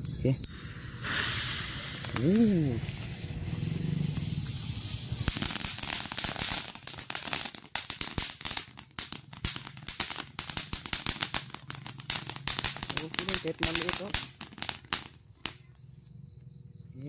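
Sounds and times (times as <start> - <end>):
firework fountain crackling: 0.4 - 15.6.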